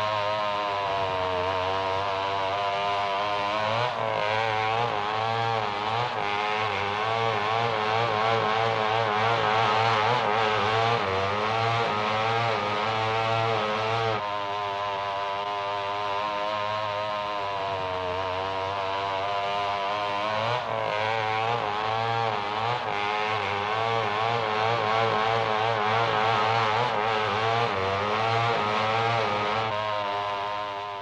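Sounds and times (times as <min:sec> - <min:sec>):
chainsaw revving: 0:00.0 - 0:31.0.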